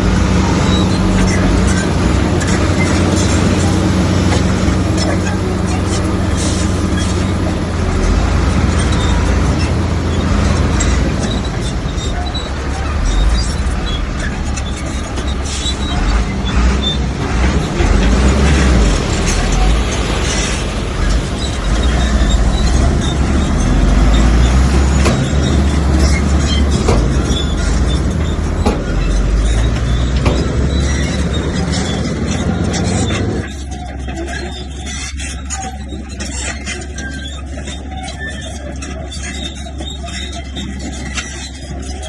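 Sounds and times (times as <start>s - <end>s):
diesel machinery rumbling: 0.0s - 42.0s.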